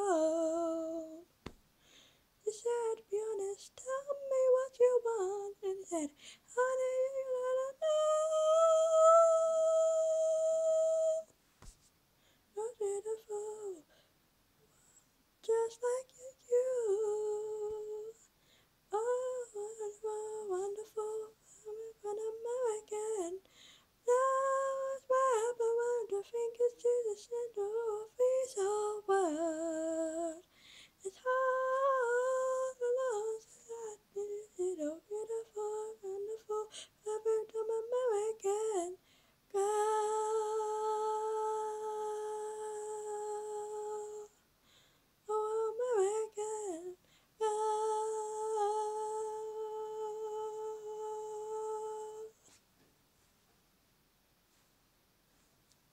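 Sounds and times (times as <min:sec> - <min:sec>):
girl singing unaccompanied: 0:00.0 - 0:01.6, 0:02.4 - 0:11.4, 0:12.5 - 0:14.0, 0:15.4 - 0:18.3, 0:18.9 - 0:52.6.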